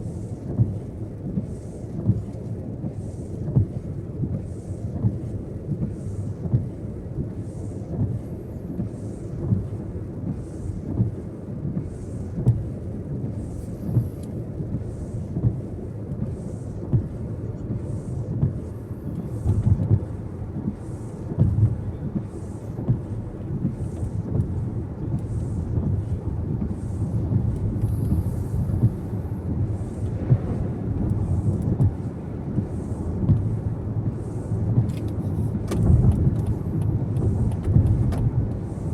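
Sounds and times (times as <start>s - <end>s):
car cabin road rumble: 0.0s - 38.9s.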